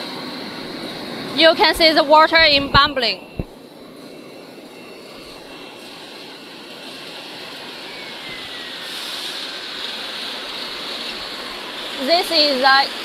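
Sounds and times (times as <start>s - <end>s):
air blower rushing: 0.0s - 13.0s.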